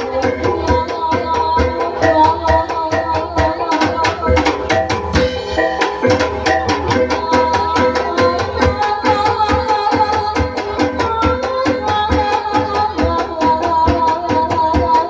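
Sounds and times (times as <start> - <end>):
ringing metallic gamelan tones: 0.0 - 15.0.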